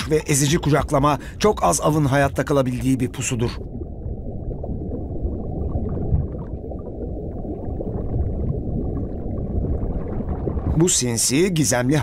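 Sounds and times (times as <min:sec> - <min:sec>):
underwater low rumble: 0:00.0 - 0:12.0.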